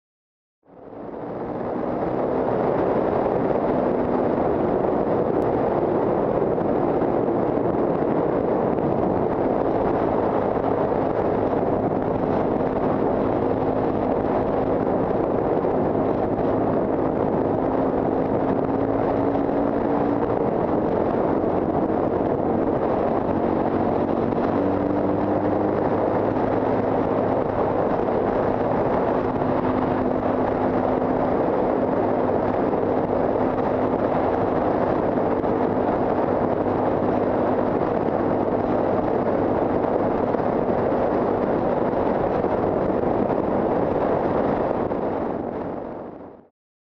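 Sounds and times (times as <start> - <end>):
heavy wind on microphone: 0.6 - 46.5
motorcycle engine droning: 0.7 - 46.5.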